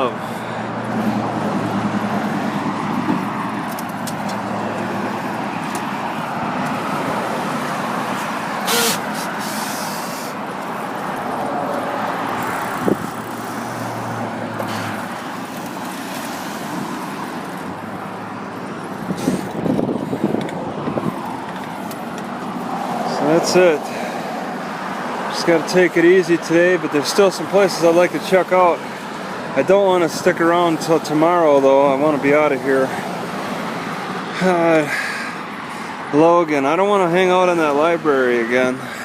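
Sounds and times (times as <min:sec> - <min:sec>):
cars passing: 0:00.0 - 0:39.0.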